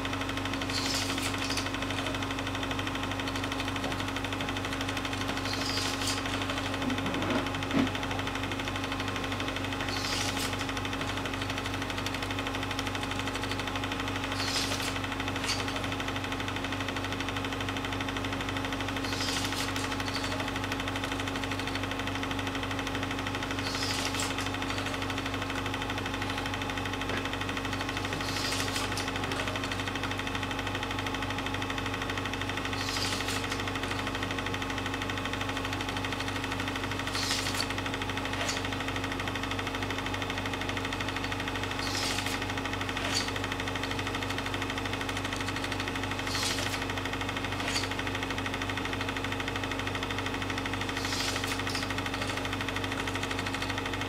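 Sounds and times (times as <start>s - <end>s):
film projector motor whir: 0.0s - 54.0s.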